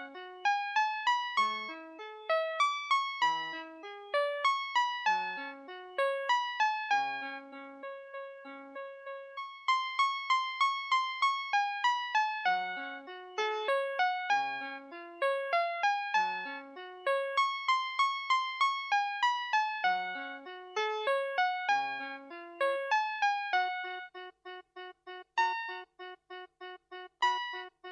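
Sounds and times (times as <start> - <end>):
toy electronic melody: 0.0 - 27.9.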